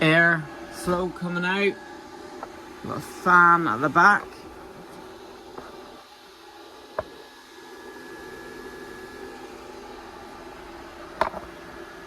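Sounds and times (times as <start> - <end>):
welder cooling fan humming: 0.0 - 12.0.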